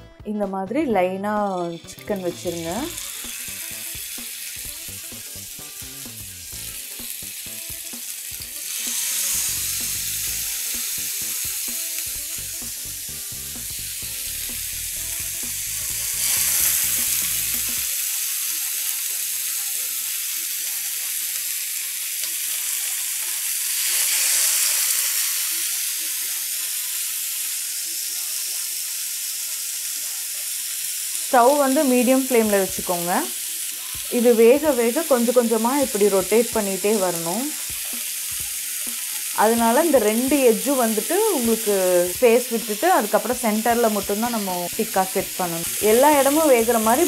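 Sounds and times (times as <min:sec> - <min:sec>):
skewers sizzling in oil on a griddle: 0:01.5 - 0:47.0.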